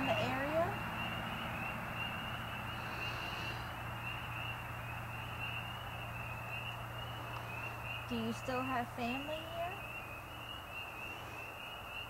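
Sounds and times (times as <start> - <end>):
frogs peeping: 0.0 - 12.0
low steady hum: 0.0 - 12.0.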